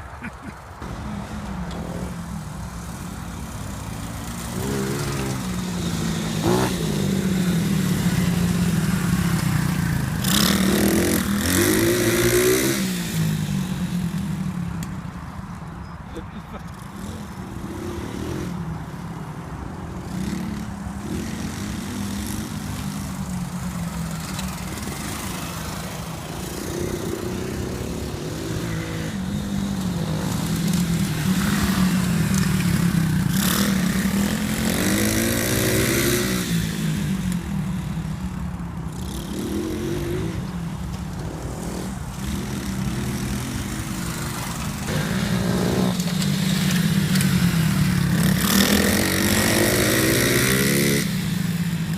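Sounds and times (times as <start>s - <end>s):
pit bike engine revving: 0.8s - 14.6s, 20.0s - 38.3s, 38.9s - 51.9s.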